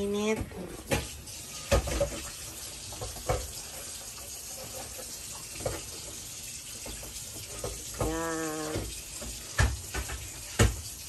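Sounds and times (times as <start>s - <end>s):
tap running: 0.0s - 11.0s.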